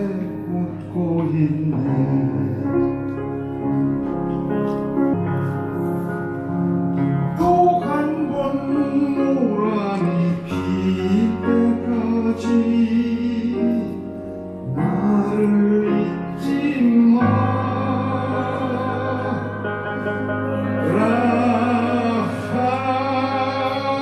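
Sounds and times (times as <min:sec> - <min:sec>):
man singing a slow ballad: 0:00.0 - 0:03.6, 0:07.2 - 0:24.0
grand piano chords: 0:00.0 - 0:24.0.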